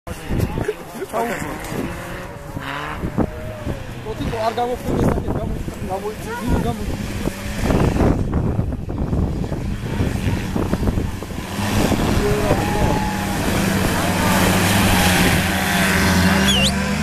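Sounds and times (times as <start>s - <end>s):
engine running under load: 0.1s - 17.0s.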